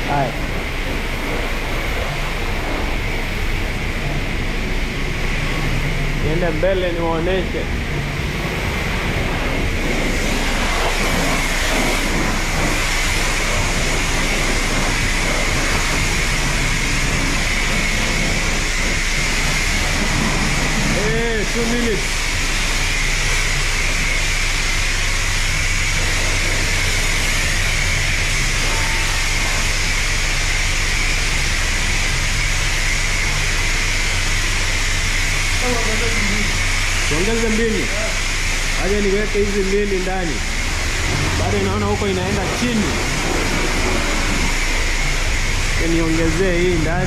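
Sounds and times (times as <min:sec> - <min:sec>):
low machinery hum: 0:00.0 - 0:47.0
pressure washer spray hissing: 0:00.0 - 0:47.0.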